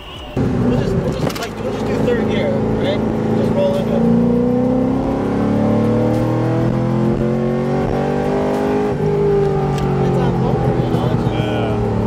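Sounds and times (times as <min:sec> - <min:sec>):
car engine accelerating: 0:00.4 - 0:12.0.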